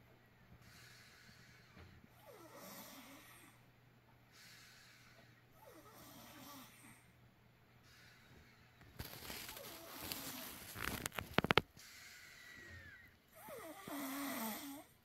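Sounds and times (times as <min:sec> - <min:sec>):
faint snoring: 0:00.6 - 0:03.7, 0:04.3 - 0:07.2, 0:07.9 - 0:15.0.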